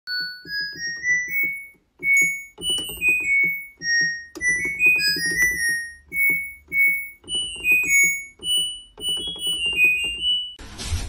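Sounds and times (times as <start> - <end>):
bouncy beat: 0.1 - 10.6
plinking keyboard tune: 0.1 - 10.6.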